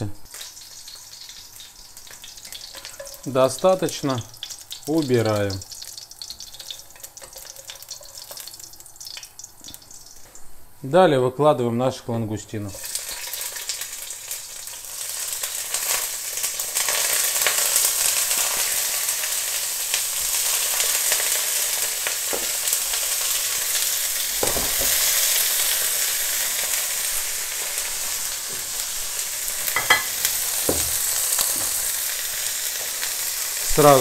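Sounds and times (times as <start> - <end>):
shellfish sizzling in hot oil: 0.2 - 10.5, 12.7 - 34.0.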